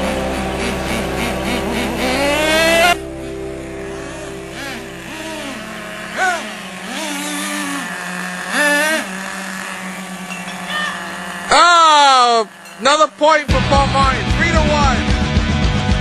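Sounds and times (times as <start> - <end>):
model car motors revving: 0.0 - 14.1.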